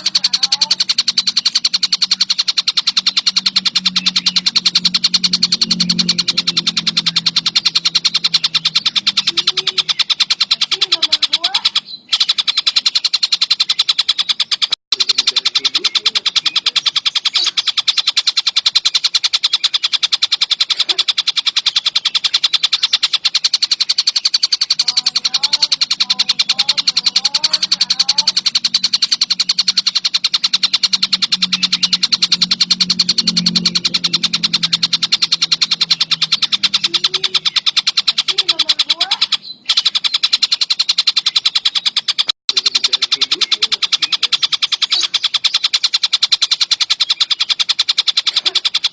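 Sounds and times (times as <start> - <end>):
bird chattering trill: 0.0 - 48.9.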